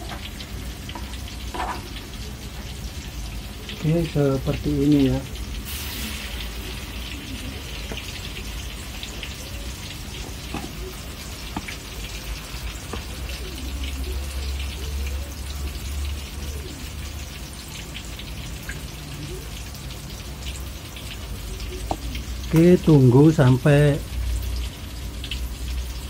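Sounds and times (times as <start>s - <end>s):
fritters sizzling in hot oil: 0.0s - 26.0s.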